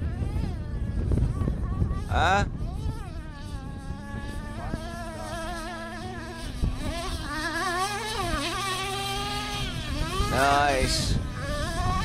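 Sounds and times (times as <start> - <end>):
small engine buzzing: 0.0 - 12.0.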